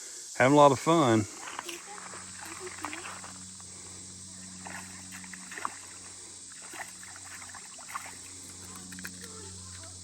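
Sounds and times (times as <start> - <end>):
steady high hiss: 0.0 - 10.0
low steady hum: 1.2 - 10.0.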